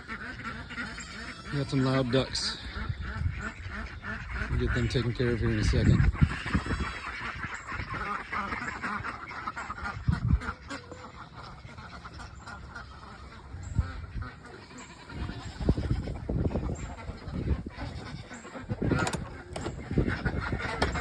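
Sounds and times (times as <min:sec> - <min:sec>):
ducks quacking: 0:00.0 - 0:21.0.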